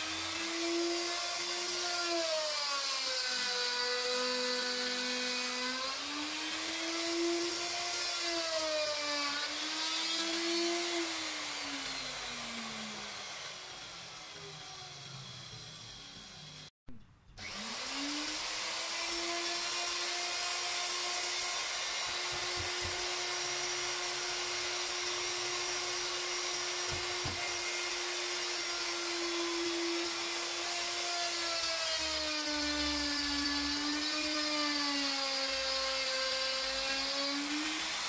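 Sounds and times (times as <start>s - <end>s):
electric router high whine: 0.0s - 16.7s, 17.4s - 38.0s.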